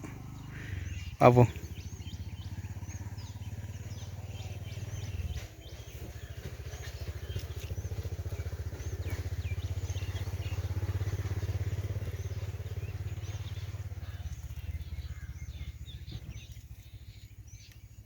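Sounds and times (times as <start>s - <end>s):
birds chirping: 0.0s - 18.0s
small engine running: 0.0s - 18.0s.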